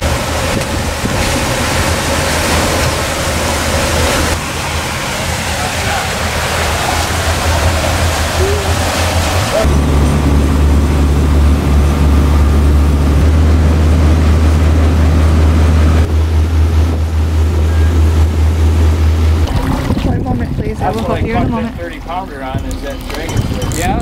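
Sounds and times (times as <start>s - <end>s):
boat engine drone: 0.0s - 24.0s
water rushing from wake: 0.0s - 24.0s
wind on microphone: 0.0s - 24.0s.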